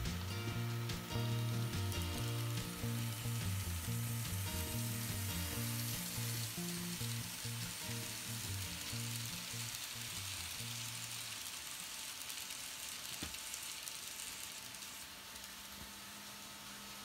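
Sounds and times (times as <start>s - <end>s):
model train wheels on rails: 0.0s - 17.0s.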